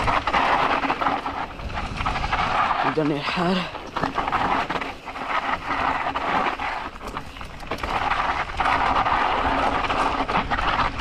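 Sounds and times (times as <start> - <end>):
bike clattering: 0.0 - 11.0
bike tyres crunching over dirt: 0.0 - 11.0
wind buffeting microphone: 0.0 - 11.0.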